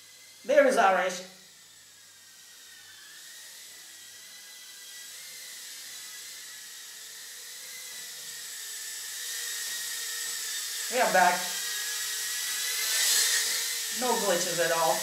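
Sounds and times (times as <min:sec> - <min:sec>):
small drone whining: 0:00.0 - 0:15.0.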